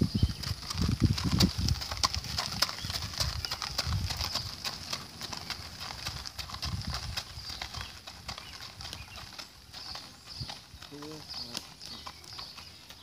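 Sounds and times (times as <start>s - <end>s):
cart wheels rolling on gravel: 0.0s - 13.0s
hooves clip-clopping on gravel: 0.0s - 13.0s.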